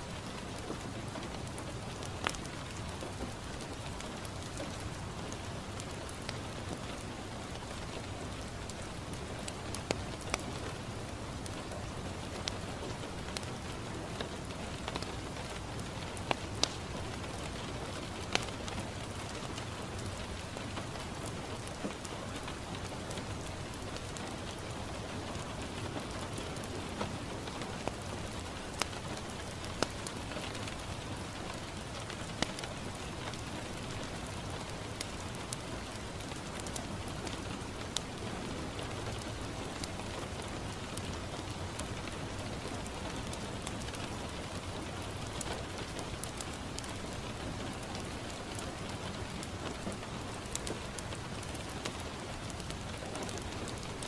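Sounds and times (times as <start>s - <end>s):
rain pattering on window: 0.0s - 54.0s
wood fire crackling: 0.0s - 54.0s.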